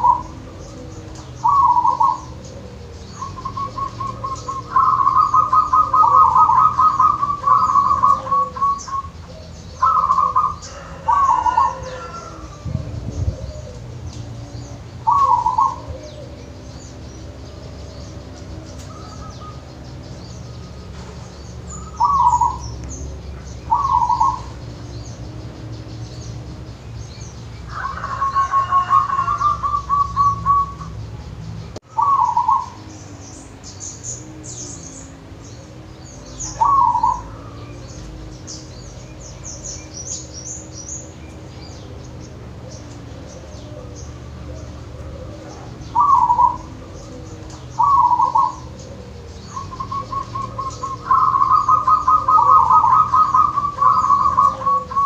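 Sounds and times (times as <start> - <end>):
dove cooing: 0.0 - 55.0
small birds chirping: 0.0 - 55.0.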